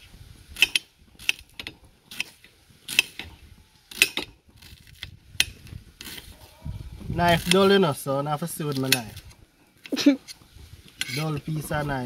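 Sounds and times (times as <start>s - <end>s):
light scraping: 1.2s - 12.0s.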